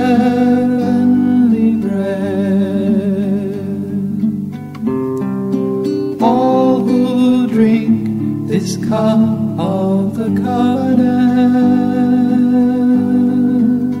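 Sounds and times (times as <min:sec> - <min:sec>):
acoustic guitar accompaniment: 0:00.0 - 0:14.0.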